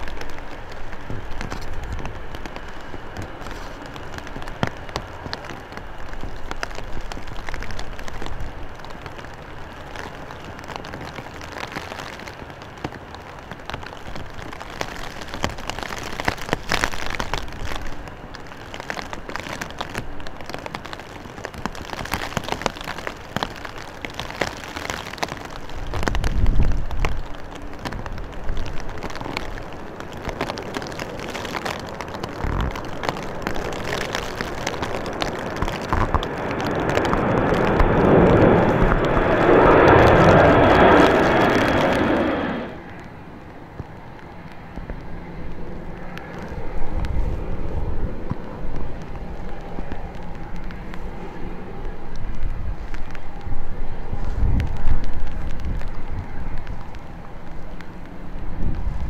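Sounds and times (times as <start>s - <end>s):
wind buffeting microphone: 0.0s - 12.6s, 13.3s - 59.0s
rain falling in strong wind: 0.0s - 59.0s.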